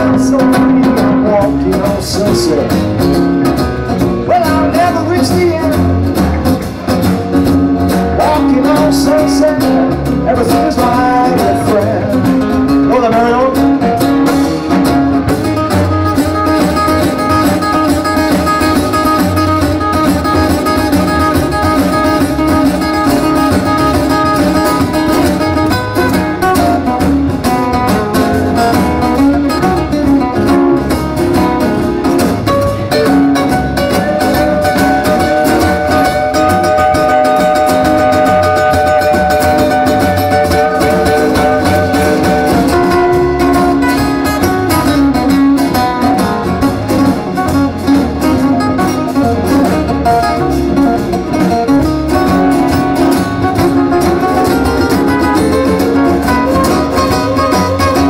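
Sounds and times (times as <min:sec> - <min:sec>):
acoustic guitars strumming: 0:00.0 - 0:58.0
live band playing: 0:00.0 - 0:58.0.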